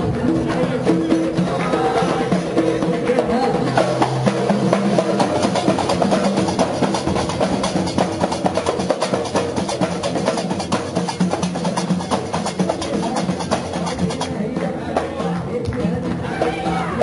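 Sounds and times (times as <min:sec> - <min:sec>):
frame drums beaten fast: 0:00.0 - 0:17.0.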